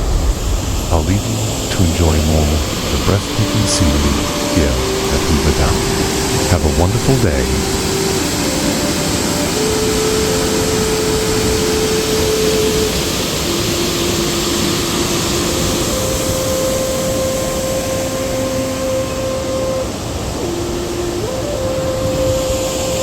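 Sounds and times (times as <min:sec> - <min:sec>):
long held tones: 0:00.0 - 0:23.0
water roaring over dam: 0:00.0 - 0:23.0.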